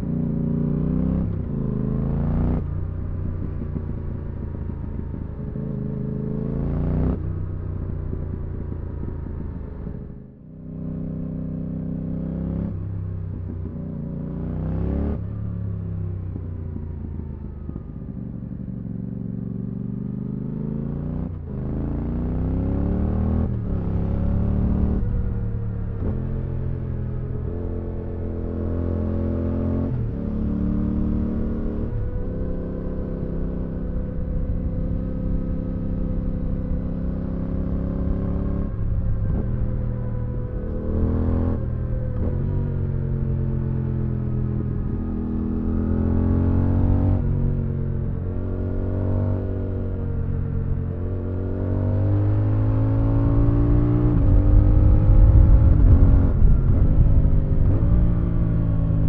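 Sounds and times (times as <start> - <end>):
motorcycle revving through gears: 0.0 - 9.5, 10.6 - 16.7, 17.7 - 59.0.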